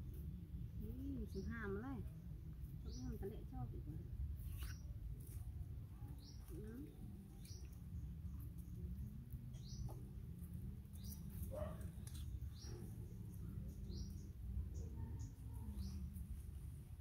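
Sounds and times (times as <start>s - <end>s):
small bird chirping: 0.8s - 17.0s.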